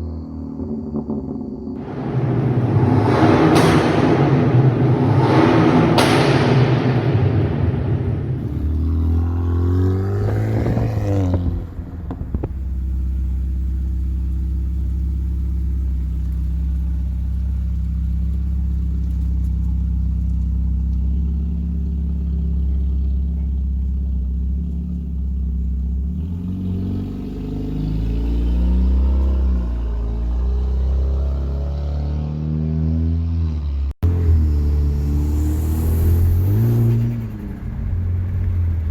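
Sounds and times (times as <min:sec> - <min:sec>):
car engine revving and idling: 0:00.0 - 0:38.9.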